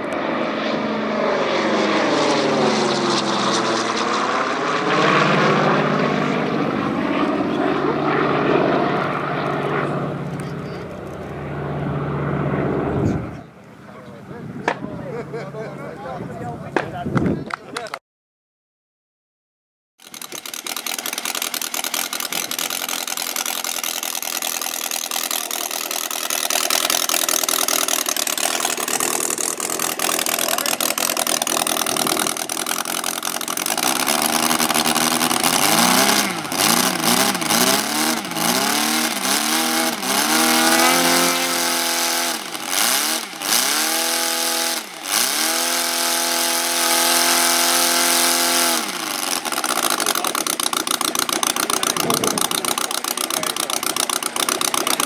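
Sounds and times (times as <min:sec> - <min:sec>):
model aero engine revving: 0:00.0 - 0:13.4, 0:20.0 - 0:55.0.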